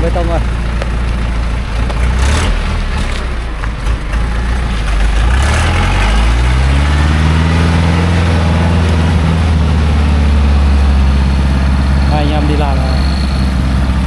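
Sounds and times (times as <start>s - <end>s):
engine knocks: 0.0s - 14.0s
truck engine picking up speed: 0.0s - 14.0s.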